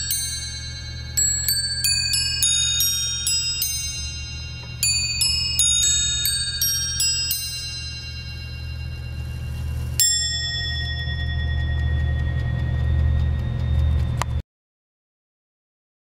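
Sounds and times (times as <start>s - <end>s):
clock chime on bowl bells: 0.0s - 14.3s.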